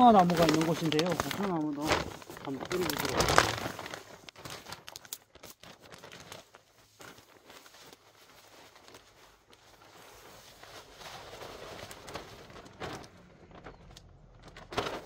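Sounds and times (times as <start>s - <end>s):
compost pouring onto dry leaves: 0.0s - 13.9s
plastic sack rustling: 0.0s - 15.0s.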